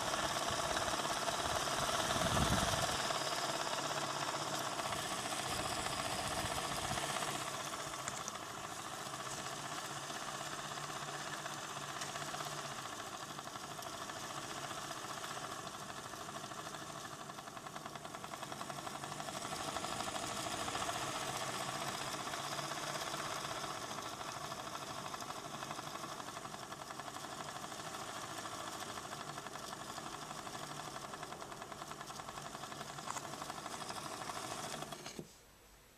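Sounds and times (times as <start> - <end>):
computer fan whirring with rattling buzz: 0.0 - 35.4.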